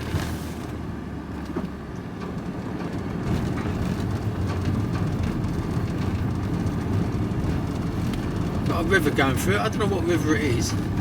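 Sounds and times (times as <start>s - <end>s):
van engine and road rumble: 0.0s - 11.0s.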